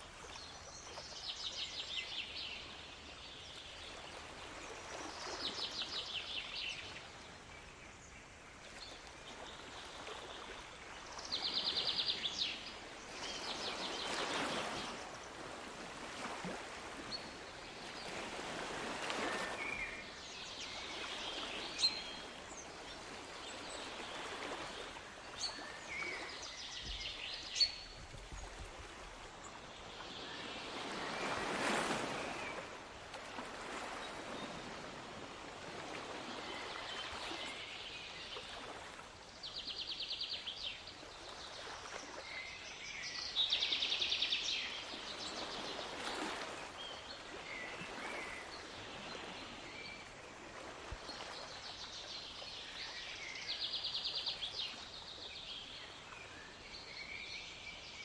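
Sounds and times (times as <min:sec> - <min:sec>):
sea waves washing ashore: 0:00.0 - 0:39.5, 0:40.4 - 0:55.0.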